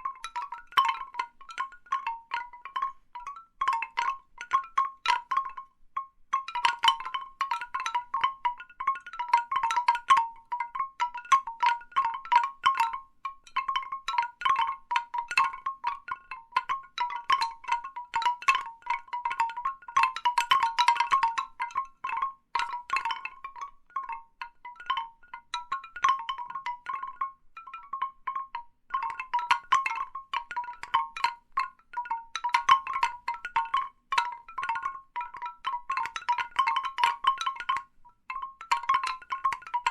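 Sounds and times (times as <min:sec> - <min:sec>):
bamboo wind chimes knocking: 0:00.0 - 0:39.9.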